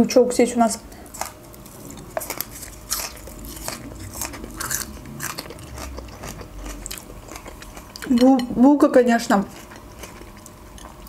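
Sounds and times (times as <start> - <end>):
crunching and chewing green onion: 0.9 - 8.2, 9.2 - 11.0.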